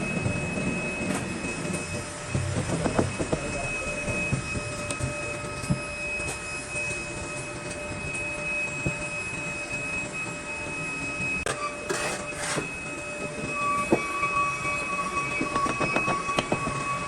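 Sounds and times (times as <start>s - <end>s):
workshop machinery whining: 0.0s - 17.0s.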